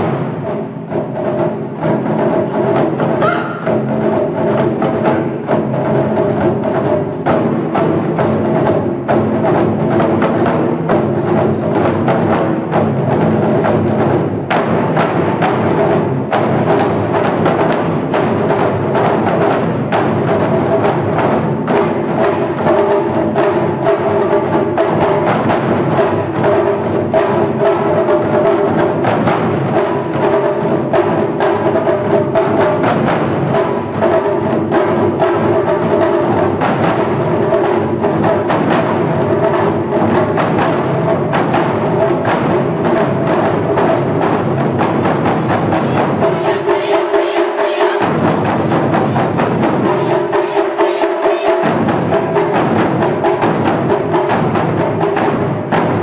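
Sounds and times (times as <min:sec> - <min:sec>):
taiko drums playing: 0:00.0 - 0:56.0.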